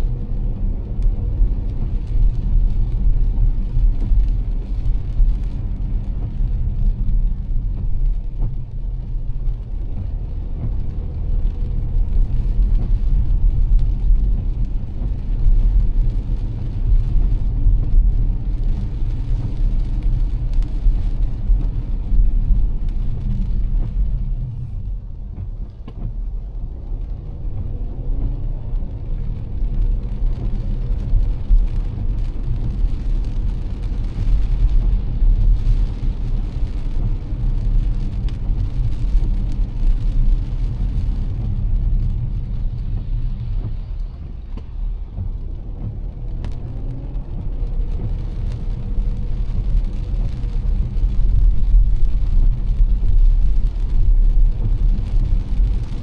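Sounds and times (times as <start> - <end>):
rain and wet road spray hiss: 0.0 - 56.0
road and tyre rumble: 0.0 - 56.0.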